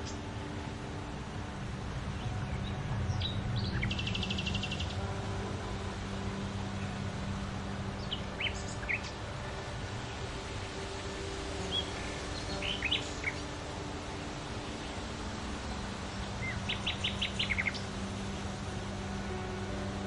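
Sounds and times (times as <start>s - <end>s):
outdoor background noise: 0.0s - 20.0s
songbirds chirping: 0.0s - 20.0s
steady low hum: 0.0s - 20.0s.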